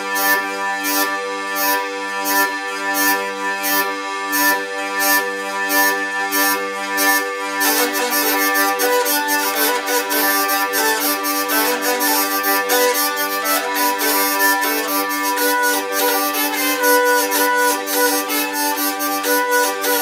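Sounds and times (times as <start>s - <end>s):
hurdy-gurdy folk tune: 0.0s - 20.0s.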